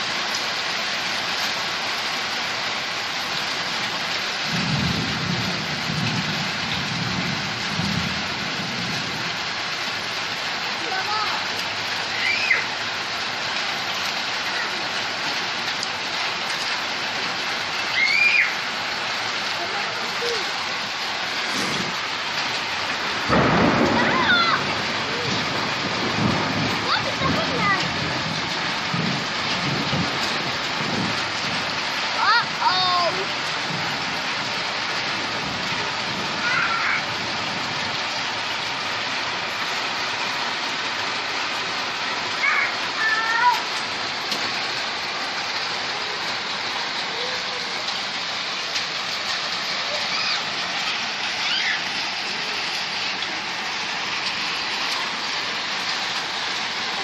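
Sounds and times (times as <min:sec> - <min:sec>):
heavy rain on a street: 0:00.0 - 0:57.0.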